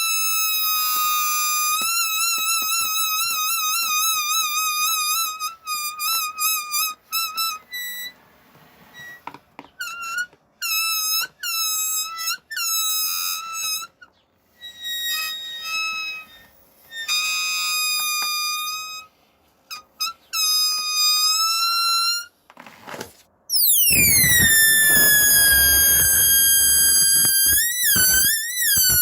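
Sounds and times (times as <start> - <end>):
balloons squealing: 0.0 - 8.2, 8.9 - 29.0.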